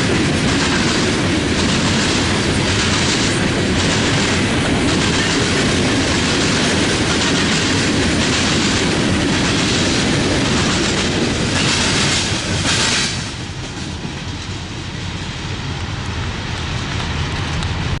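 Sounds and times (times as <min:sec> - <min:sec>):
wheels clicking over rail joints: 0:00.0 - 0:14.6
freight train cars rolling: 0:00.0 - 0:18.0.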